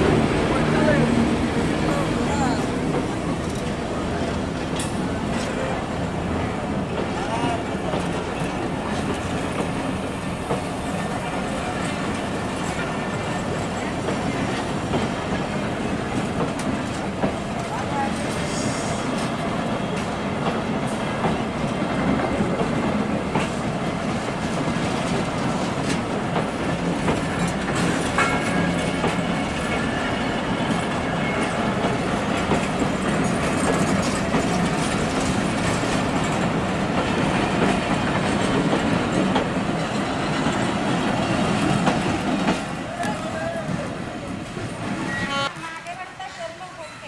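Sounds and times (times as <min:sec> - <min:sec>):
train wheels clacking on rails: 0:00.0 - 0:46.6.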